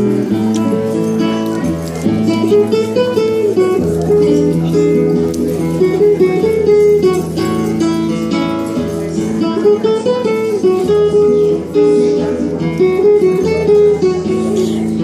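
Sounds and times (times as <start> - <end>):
acoustic guitar plucked notes: 0.0 - 15.0.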